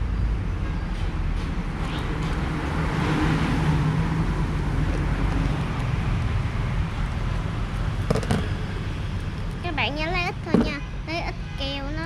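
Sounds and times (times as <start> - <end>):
background rumble of road traffic: 0.0 - 12.0.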